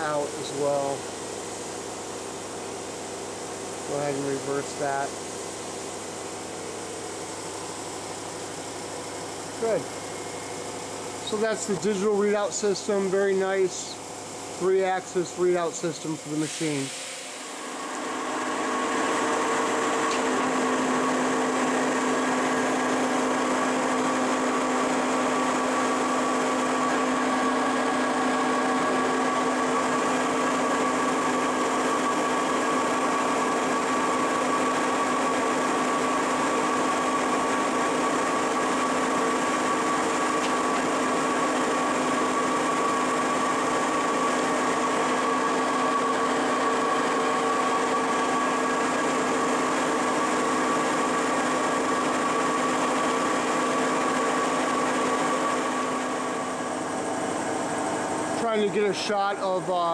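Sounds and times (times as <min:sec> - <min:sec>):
boring mill machine whine: 0:00.0 - 0:59.9.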